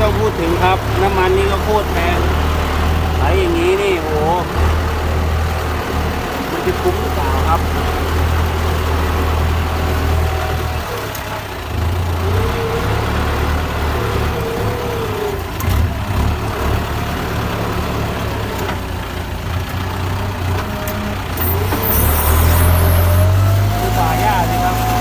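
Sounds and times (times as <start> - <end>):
tractor diesel engine droning: 0.0 - 25.0.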